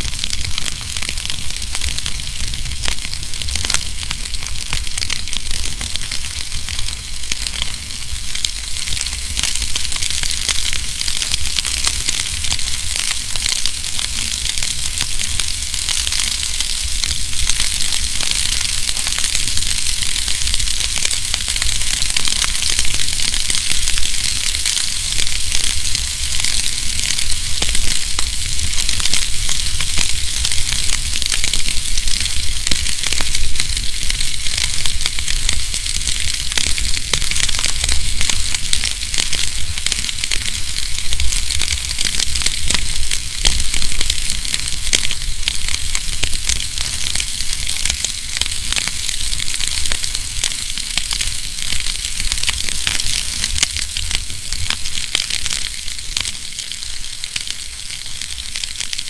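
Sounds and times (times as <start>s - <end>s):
fire crackling and popping: 0.0s - 59.0s
wood fire hissing: 0.0s - 59.0s.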